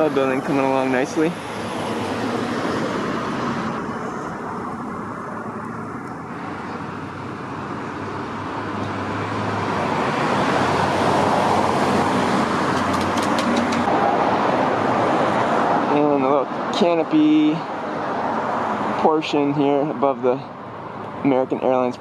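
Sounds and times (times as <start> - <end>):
vehicle passing: 0.0 - 19.5
road traffic noise: 0.0 - 22.0.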